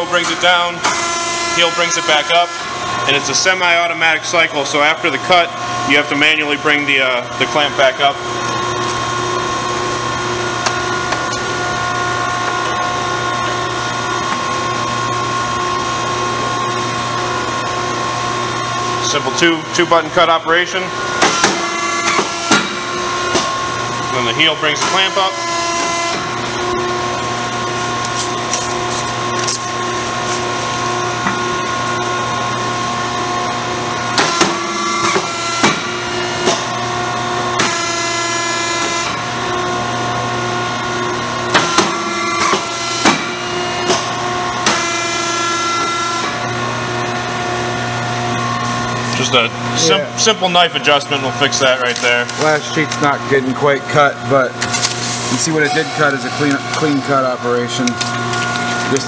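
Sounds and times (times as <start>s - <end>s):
hydraulic pump motor humming: 0.0s - 59.0s.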